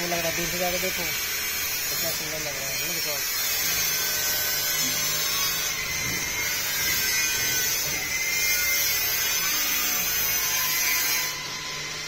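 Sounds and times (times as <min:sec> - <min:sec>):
small electric motor humming: 0:00.0 - 0:12.0.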